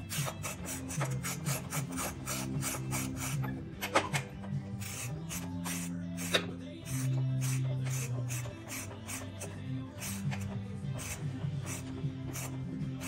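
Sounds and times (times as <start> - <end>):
bassline: 0.0 - 13.0
rasping percussion: 0.0 - 13.0.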